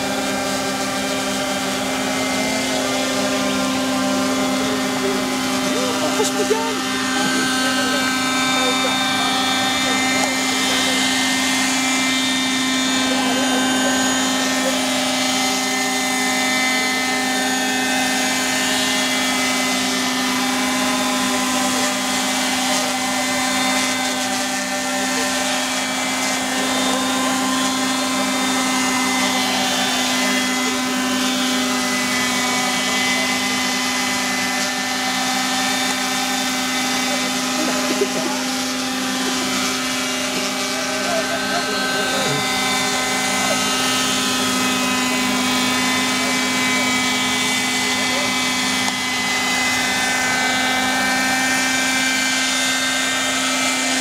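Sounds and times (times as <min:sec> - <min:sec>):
model helicopter whine: 0:00.0 - 0:54.0.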